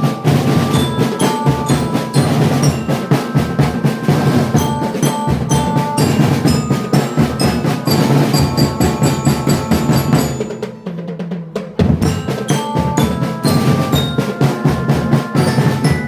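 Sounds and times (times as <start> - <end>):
bass drums and snares: 0.0 - 16.0
bell lyra melody: 0.0 - 16.0.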